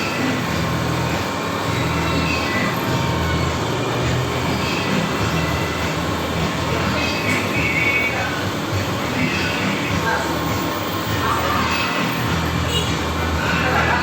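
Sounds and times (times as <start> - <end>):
workshop machinery rumbling: 0.0 - 14.0.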